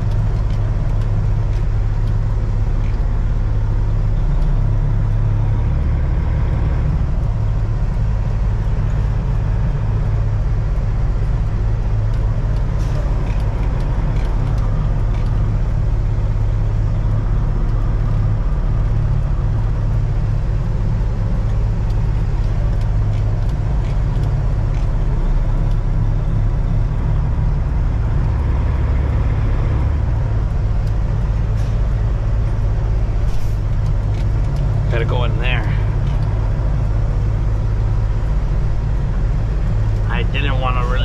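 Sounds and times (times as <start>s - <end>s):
road noise: 0.0s - 41.0s
truck diesel engine drone: 0.0s - 41.0s.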